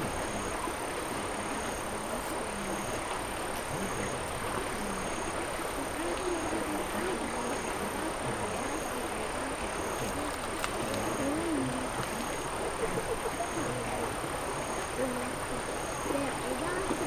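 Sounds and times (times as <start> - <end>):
constant high whine: 0.0 - 17.0
faint voices: 0.0 - 17.0
high insect chirp: 0.0 - 17.0
small stream rushing: 0.0 - 17.0.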